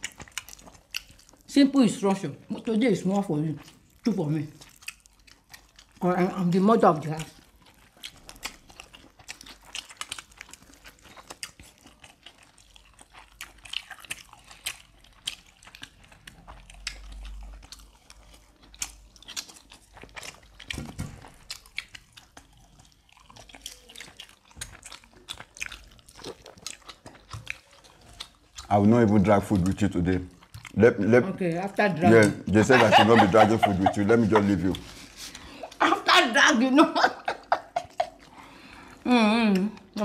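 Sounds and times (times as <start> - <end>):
chewing and biting food: 0.0 - 35.9, 37.2 - 40.0.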